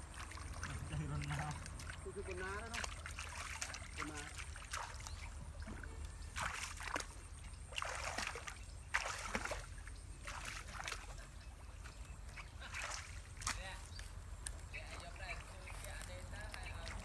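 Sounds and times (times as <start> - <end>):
water sloshing from wading: 0.0 - 17.0.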